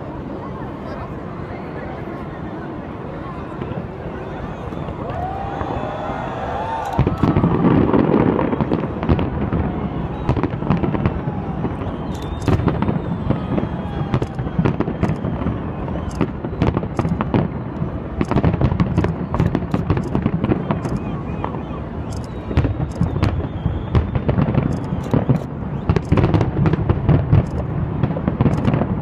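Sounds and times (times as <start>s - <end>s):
fireworks bangs and crackles: 2.3s - 29.0s.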